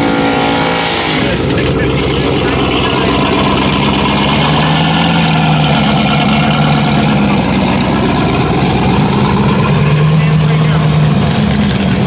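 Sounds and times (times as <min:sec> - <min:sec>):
race vehicle engine idling: 0:00.0 - 0:12.0.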